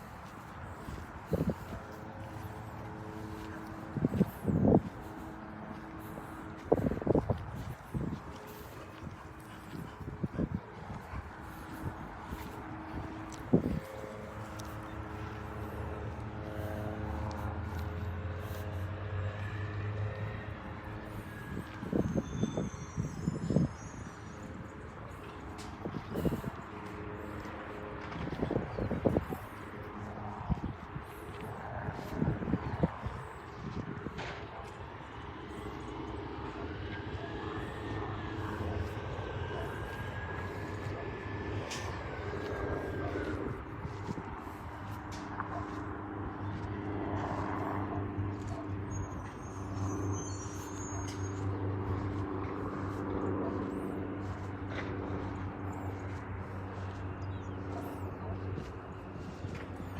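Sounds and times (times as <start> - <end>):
distant engine droning: 0.0 - 59.9.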